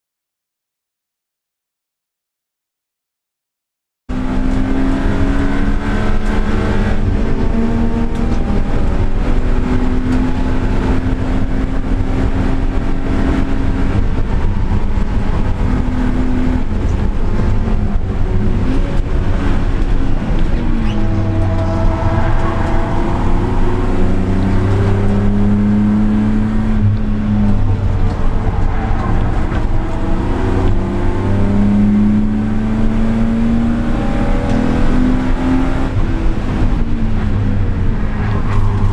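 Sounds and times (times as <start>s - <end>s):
car engine revving: 4.1s - 38.9s
road and wind noise: 4.1s - 38.9s.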